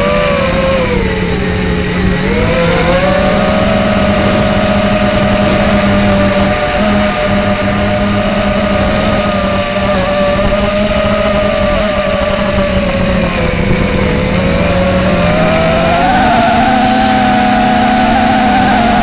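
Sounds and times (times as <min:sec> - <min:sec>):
quadcopter motors buzzing: 0:00.0 - 0:19.0
rushing air noise: 0:00.0 - 0:19.0.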